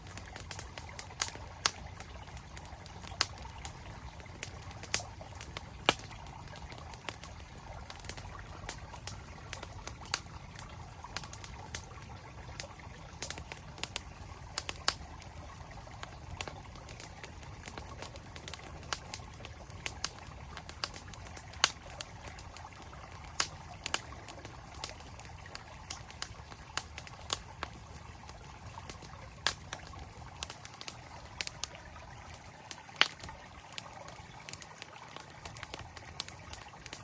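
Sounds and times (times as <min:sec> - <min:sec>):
campfire crackling and popping: 0:00.0 - 0:37.0
flowing stream: 0:00.0 - 0:37.0.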